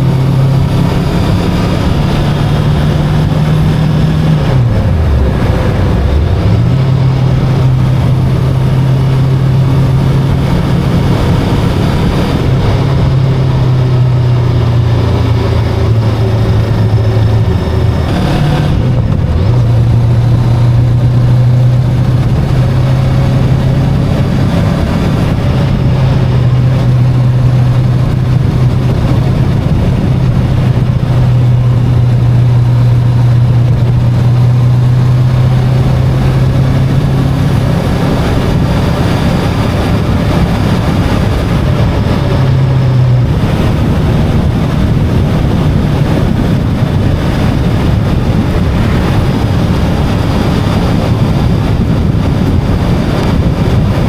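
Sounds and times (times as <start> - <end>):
motorcycle engine cruising: 0.0 - 54.0
tyre road noise: 0.0 - 54.0
wind rush: 0.0 - 54.0.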